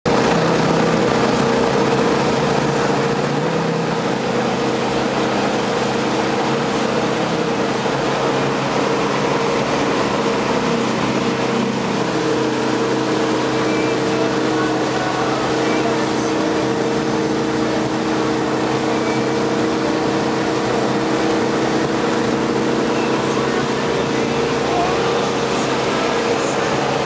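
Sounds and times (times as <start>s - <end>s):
boat engine running: 0.0s - 27.0s
churning water: 0.0s - 27.0s.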